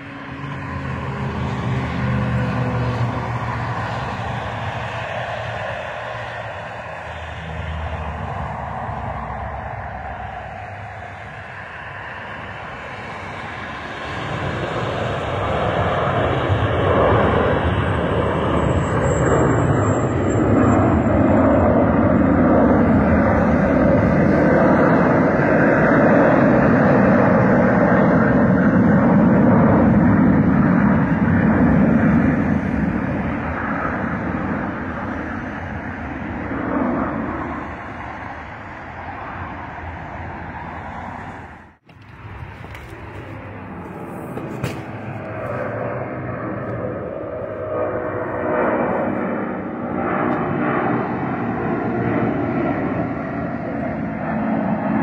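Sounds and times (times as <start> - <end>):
high thin engine whine: 0.0 - 55.0
jet engines rumbling overhead: 0.0 - 55.0.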